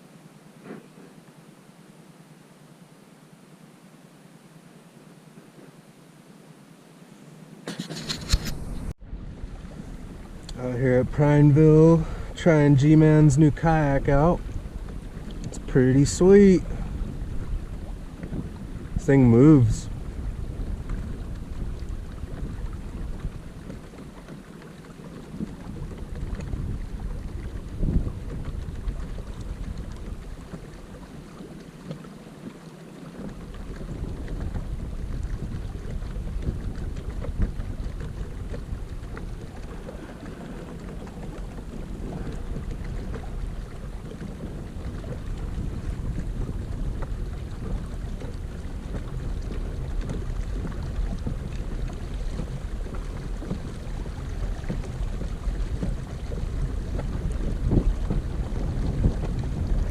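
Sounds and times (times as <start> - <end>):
wind buffeting microphone: 7.7 - 31.5, 33.2 - 59.9.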